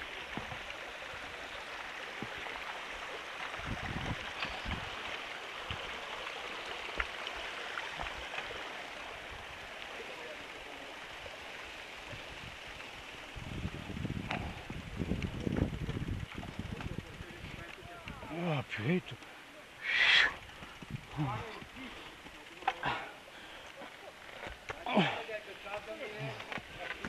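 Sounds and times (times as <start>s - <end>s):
stream rushing over rocks: 0.0s - 27.0s.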